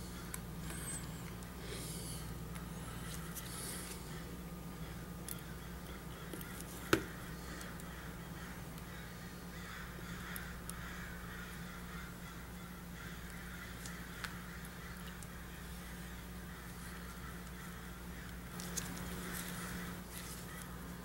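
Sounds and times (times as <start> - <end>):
steady low hum: 0.0 - 21.0
faint bird calls: 0.1 - 21.0.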